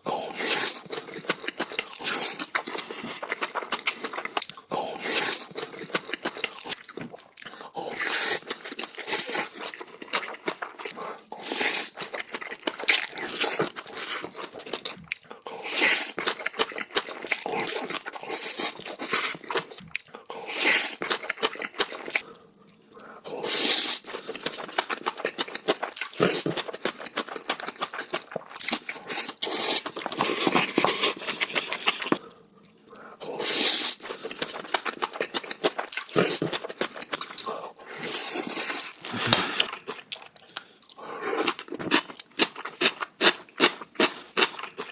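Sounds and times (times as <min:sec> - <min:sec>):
crunching and wet mouth sounds: 0:00.0 - 0:44.9
person chewing food: 0:00.0 - 0:44.9.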